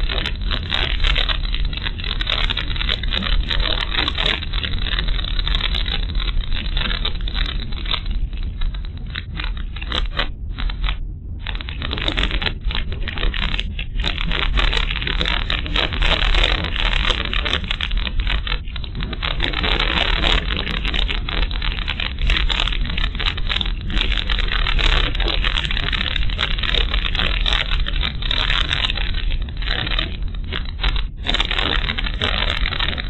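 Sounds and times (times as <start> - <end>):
crackling and rattling clicks: 0.0 - 33.0.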